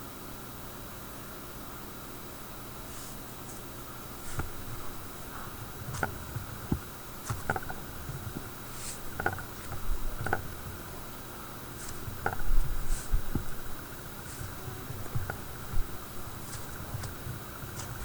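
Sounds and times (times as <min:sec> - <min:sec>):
low slime squishes: 0:03.0 - 0:18.0.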